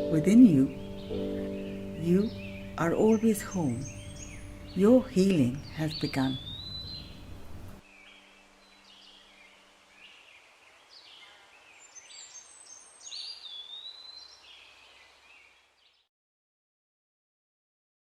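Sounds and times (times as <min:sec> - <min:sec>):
songbirds chirping and whistling: 0:00.0 - 0:16.1.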